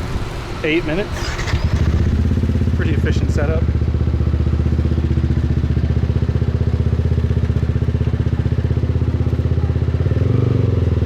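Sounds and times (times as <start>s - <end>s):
motorbike engine running: 1.2s - 11.0s.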